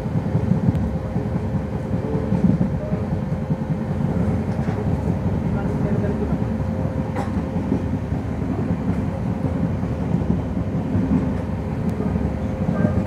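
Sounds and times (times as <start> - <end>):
train coach rumbling on track: 0.0 - 13.0.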